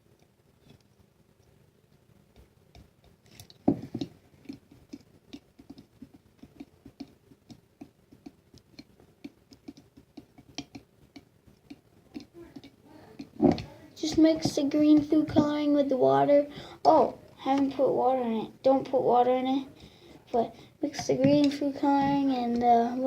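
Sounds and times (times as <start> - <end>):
plastic spoon stirring glue in jar: 2.3 - 23.0.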